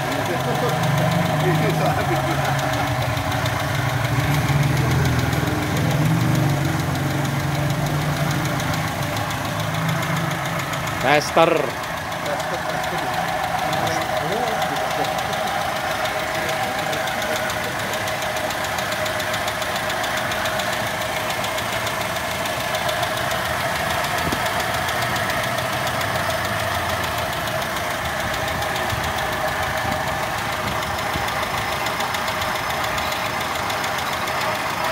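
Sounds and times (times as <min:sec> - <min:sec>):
valve ticking: 0:00.0 - 0:34.8
car engine idling: 0:00.0 - 0:34.9.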